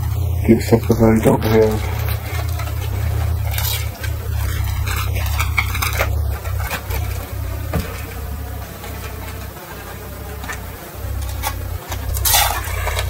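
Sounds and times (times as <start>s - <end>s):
steady low hum: 0.0s - 13.0s
wrapper ripping and crinkling: 0.7s - 13.0s.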